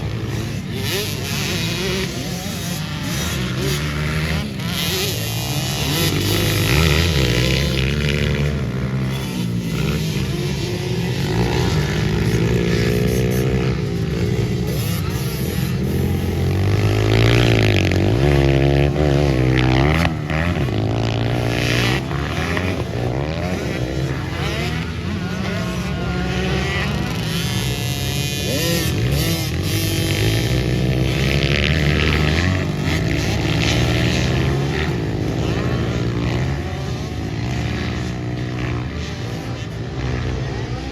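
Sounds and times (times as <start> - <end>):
pit bike engines revving: 0.0 - 40.9.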